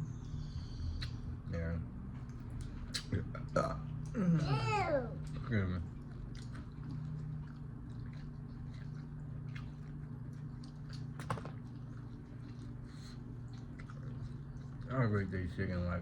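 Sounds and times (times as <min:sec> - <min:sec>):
steady low hum: 0:00.0 - 0:16.0
chewing and mouth sounds: 0:00.6 - 0:16.0.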